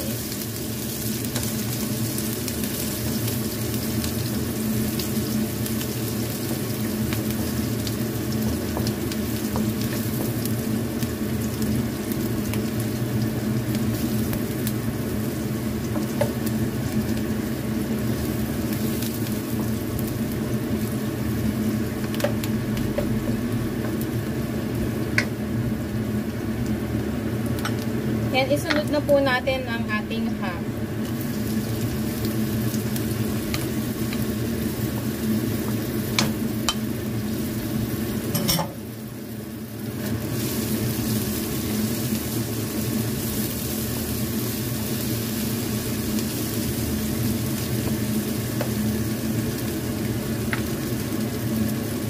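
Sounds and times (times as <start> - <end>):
onion and garlic sizzling: 0.0 - 52.0.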